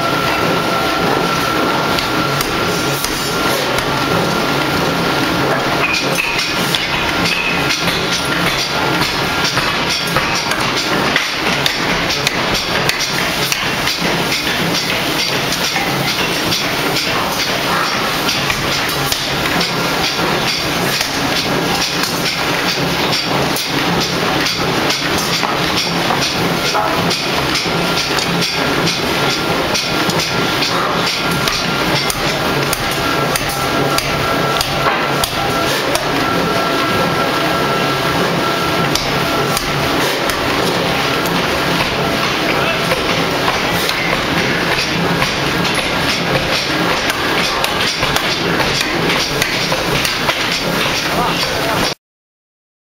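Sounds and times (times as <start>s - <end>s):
forging machinery knocking and clanking: 1.9s - 37.0s, 38.7s - 52.0s.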